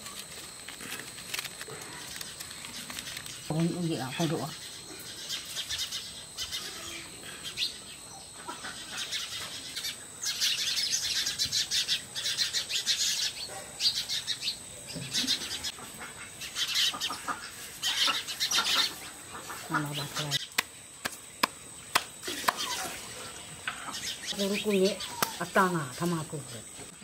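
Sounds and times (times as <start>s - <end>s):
birds chirping: 1.8s - 27.0s.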